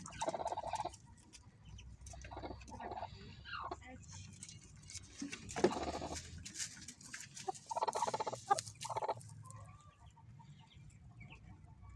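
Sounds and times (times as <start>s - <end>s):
hen clucking: 0.0s - 11.9s.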